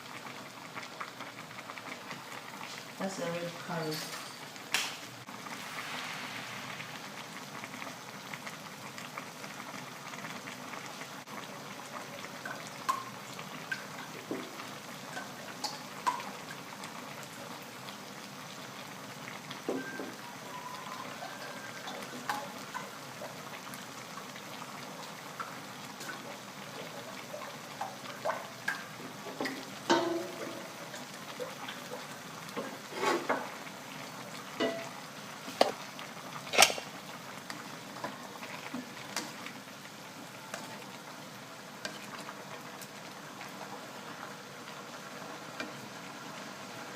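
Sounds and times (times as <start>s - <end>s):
curry bubbling in a pot: 0.0s - 3.2s, 4.6s - 46.9s.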